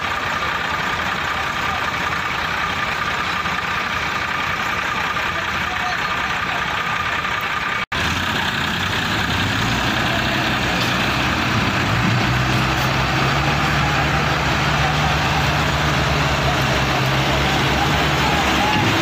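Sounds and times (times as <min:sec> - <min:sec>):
tractor diesel engines running: 0:00.0 - 0:19.0.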